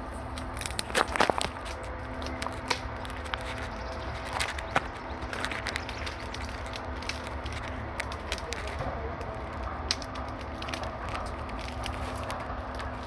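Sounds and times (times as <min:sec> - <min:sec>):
leaves and stems rustling: 0:00.0 - 0:13.0
mic handling rumble: 0:00.0 - 0:13.0
twigs snapping underfoot: 0:00.0 - 0:13.0.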